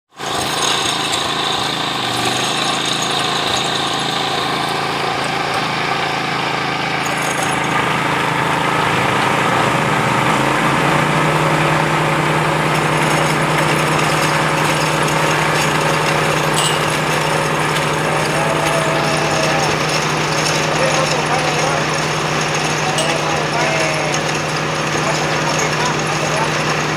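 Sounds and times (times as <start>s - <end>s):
drilling machine engine running: 0.1s - 26.9s.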